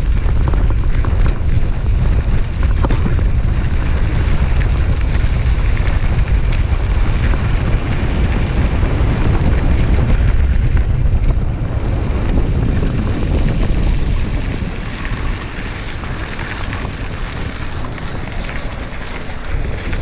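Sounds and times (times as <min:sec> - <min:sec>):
bicycle rattles and ticks: 0:00.0 - 0:20.0
wind buffeting microphone: 0:00.0 - 0:20.0.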